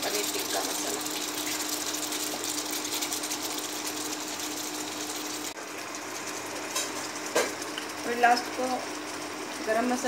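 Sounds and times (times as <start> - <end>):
gravy boiling and sizzling: 0.0 - 10.0.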